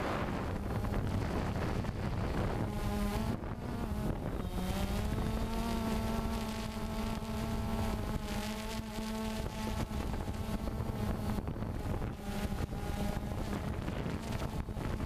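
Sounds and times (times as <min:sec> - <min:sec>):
drone propellers whining: 0:00.0 - 0:15.0
wind rumbling on microphone: 0:00.0 - 0:15.0.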